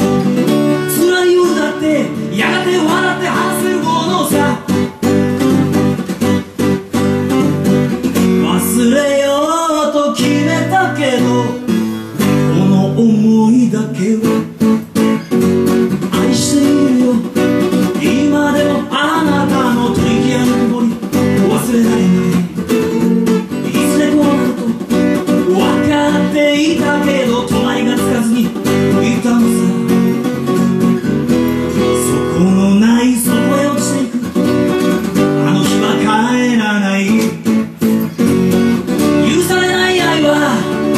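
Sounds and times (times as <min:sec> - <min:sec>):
man singing: 0:00.0 - 0:05.8, 0:08.2 - 0:30.6, 0:31.6 - 0:38.0, 0:38.9 - 0:40.9
strummed acoustic guitar: 0:00.0 - 0:40.9.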